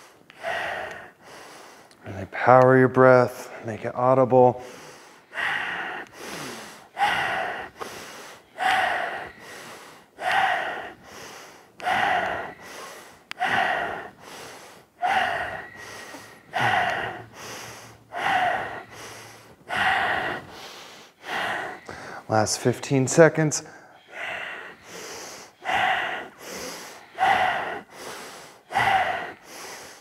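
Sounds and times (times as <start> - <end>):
person breathing forcefully: 0.0 - 1.9, 4.6 - 22.3, 23.6 - 30.0.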